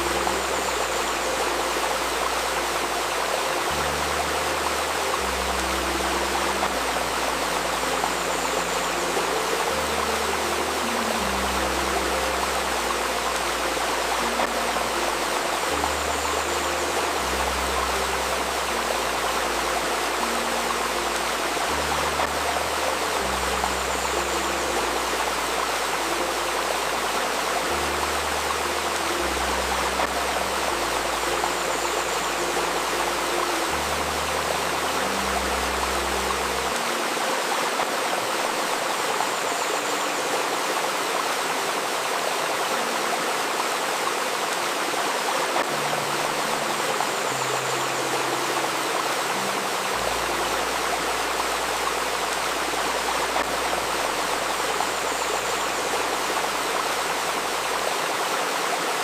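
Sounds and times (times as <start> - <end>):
soft low synth notes: 0.0 - 58.8
river babbling over stones: 0.0 - 59.0.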